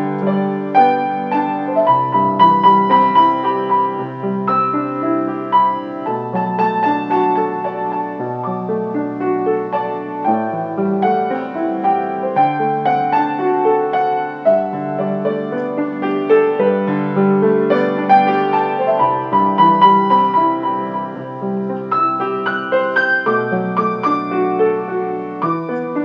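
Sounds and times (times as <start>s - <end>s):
slow piano music: 0.0s - 26.0s.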